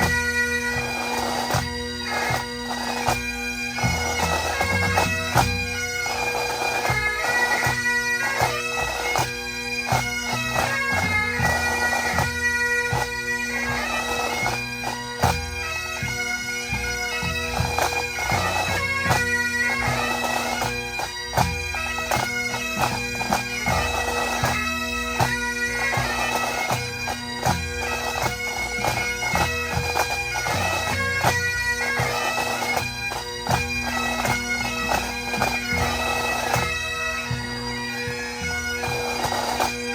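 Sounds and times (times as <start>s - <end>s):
bagpipes playing melody: 0.0s - 39.9s.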